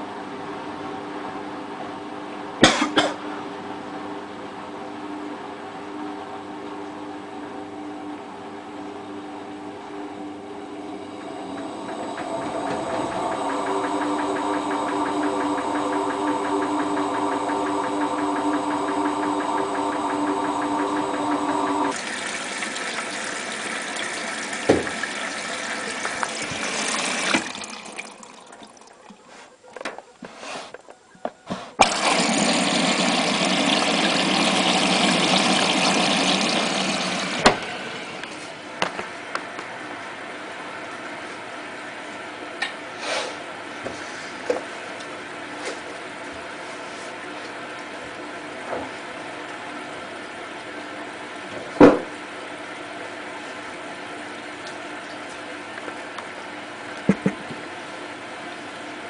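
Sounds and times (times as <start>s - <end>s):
washing machine motor hum: 4.3s - 29.9s, 31.8s - 42.9s, 43.5s - 59.0s.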